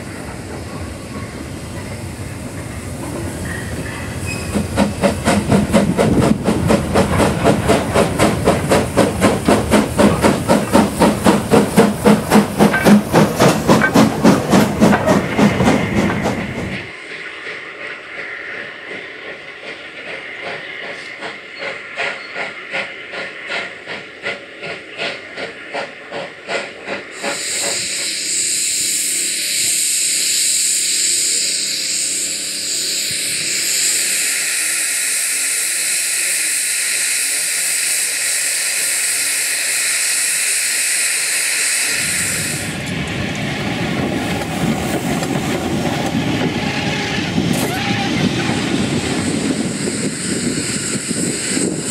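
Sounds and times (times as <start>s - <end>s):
loud hiss of steam: 0.0s - 51.9s
steam locomotive exhaust beats: 0.0s - 51.9s.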